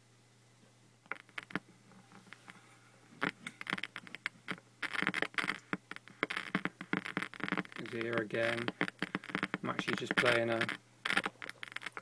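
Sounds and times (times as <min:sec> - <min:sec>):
steady low hum: 0:00.0 - 0:12.0
speakers crackling and popping: 0:01.0 - 0:12.0.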